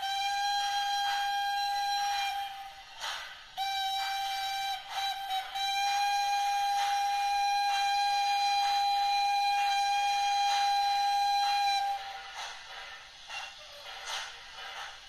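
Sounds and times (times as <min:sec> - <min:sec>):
steam whistle blast: 0:00.0 - 0:12.4.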